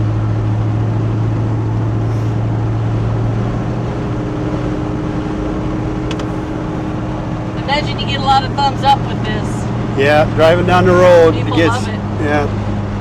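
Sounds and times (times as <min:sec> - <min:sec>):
pickup truck engine droning: 0:00.0 - 0:13.0
road noise: 0:00.0 - 0:13.0.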